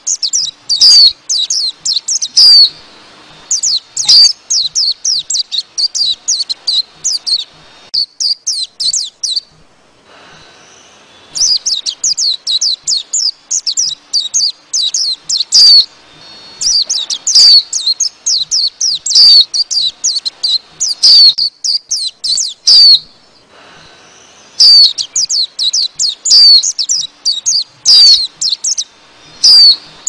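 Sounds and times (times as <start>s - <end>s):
birds chirping flock calls: 0.0s - 9.4s, 10.7s - 23.1s, 24.1s - 30.0s.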